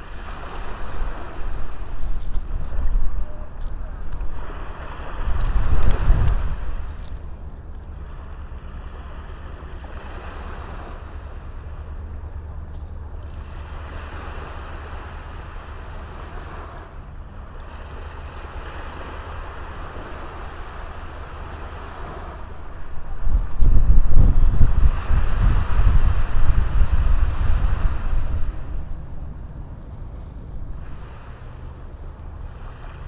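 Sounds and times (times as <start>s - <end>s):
small waves washing on beach: 0.0s - 33.0s
wind rumble on microphone: 0.0s - 33.0s.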